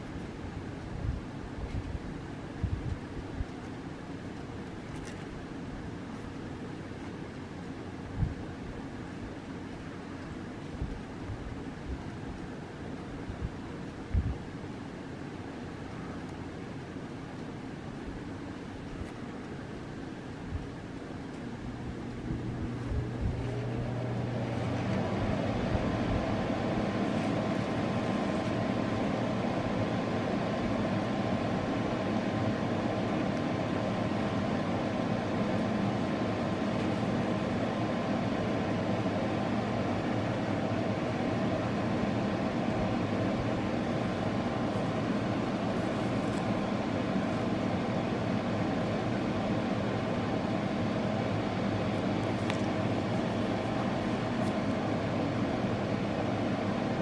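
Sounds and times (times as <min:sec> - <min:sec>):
mechanical hum with whine: 0:00.0 - 0:57.0.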